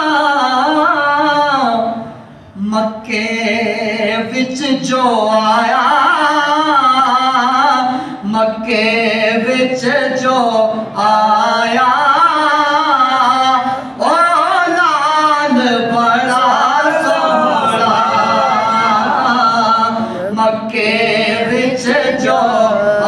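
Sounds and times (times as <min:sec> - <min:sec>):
man singing unaccompanied: 0:02.6 - 0:23.0.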